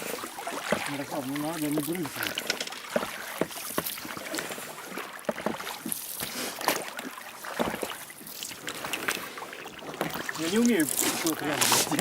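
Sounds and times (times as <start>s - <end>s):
oars splashing in water: 0.0s - 12.0s.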